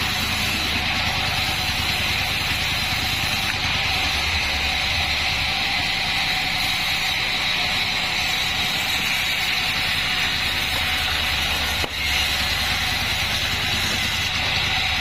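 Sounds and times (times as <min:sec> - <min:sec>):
band sawmill sawing log: 0:00.0 - 0:15.0.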